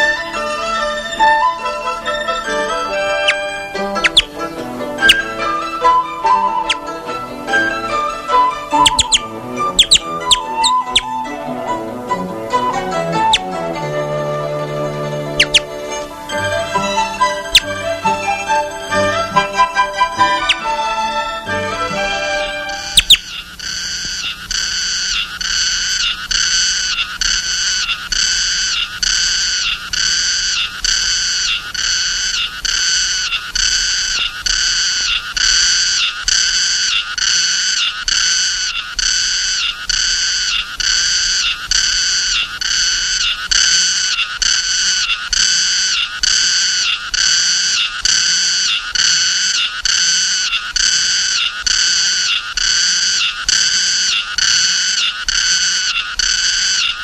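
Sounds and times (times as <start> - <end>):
cicada buzzing: 0.0 - 57.0.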